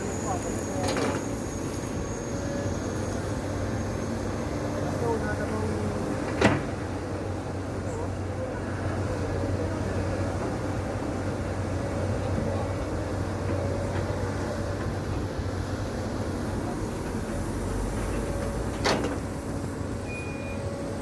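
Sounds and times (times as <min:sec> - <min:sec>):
excavator diesel engine droning: 0:00.0 - 0:06.3, 0:07.0 - 0:21.0.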